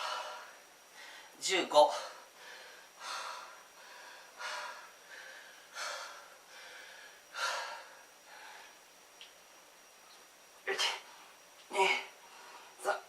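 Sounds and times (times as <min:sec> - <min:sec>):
man breathing hard: 0:00.0 - 0:08.9, 0:10.8 - 0:12.8.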